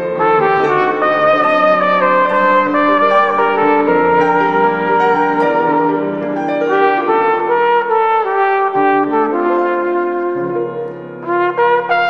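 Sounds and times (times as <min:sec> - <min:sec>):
flugelhorn slow melody: 0:00.0 - 0:12.0
recorded accompaniment: 0:00.0 - 0:12.0.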